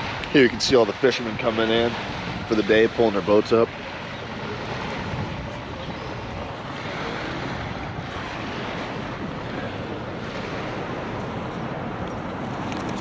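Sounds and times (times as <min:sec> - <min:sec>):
ocean surf washing on beach: 0:00.0 - 0:13.0
wind buffeting microphone: 0:00.0 - 0:13.0.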